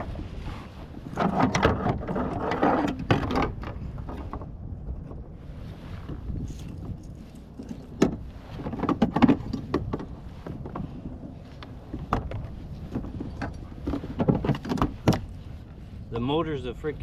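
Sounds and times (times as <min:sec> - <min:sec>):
steady low rumble: 0:00.0 - 0:08.8, 0:09.4 - 0:17.0.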